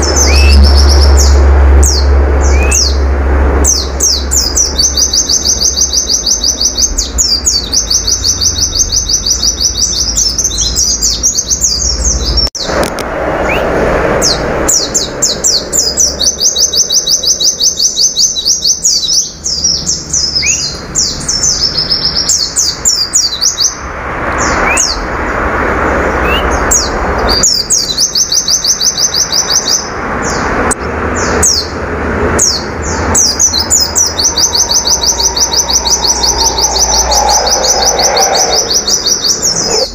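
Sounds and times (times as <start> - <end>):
white-eye bird singing rapid notes: 0.0 - 12.8, 13.4 - 23.8, 26.2 - 30.5, 32.4 - 39.9.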